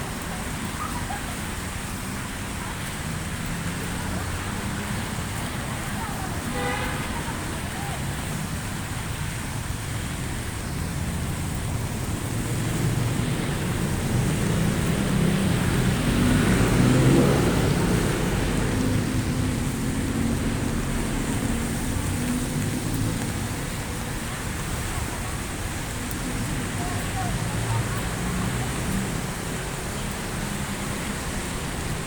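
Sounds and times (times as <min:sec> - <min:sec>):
car passing on wet road: 0:00.0 - 0:32.0
heavy rain: 0:00.0 - 0:32.0.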